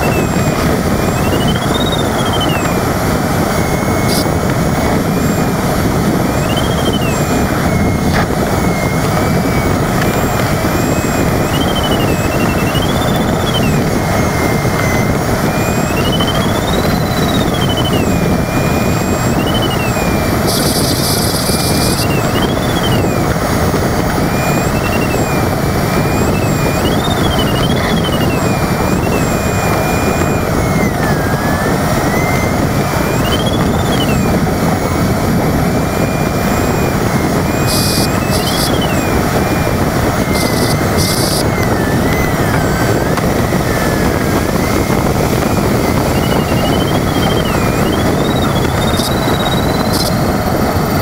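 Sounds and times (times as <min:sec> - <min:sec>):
airflow rushing in cockpit: 0:00.0 - 0:51.0
short high electronic bursts: 0:00.0 - 0:51.0
variometer tone gliding in pitch: 0:00.0 - 0:51.0.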